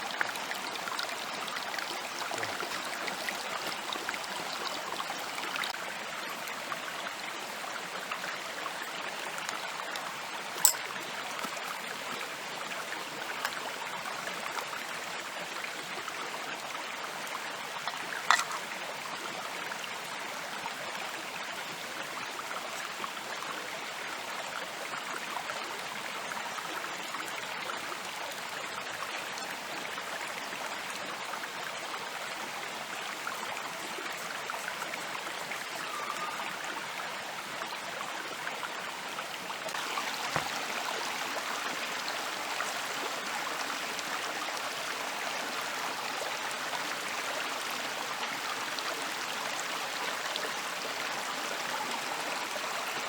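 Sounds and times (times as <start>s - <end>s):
flowing water: 0.0s - 53.0s.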